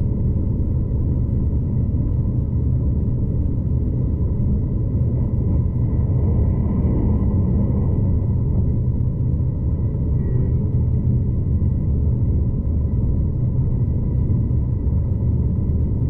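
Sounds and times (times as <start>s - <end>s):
faint steady whine: 0.0s - 16.0s
train rumble inside carriage: 0.0s - 16.0s.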